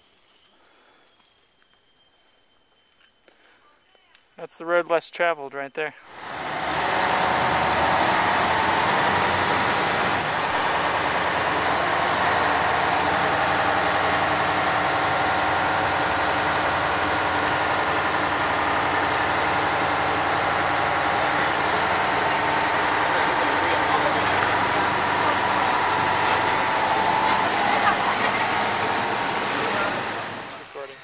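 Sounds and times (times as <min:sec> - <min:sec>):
boat engine running: 0:06.1 - 0:31.0.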